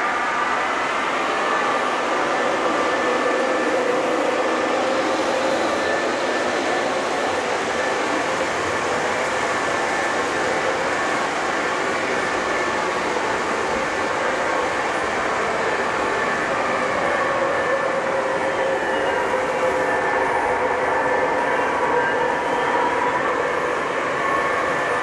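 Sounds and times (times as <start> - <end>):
model train wheels rumbling on rail: 0.0 - 20.4.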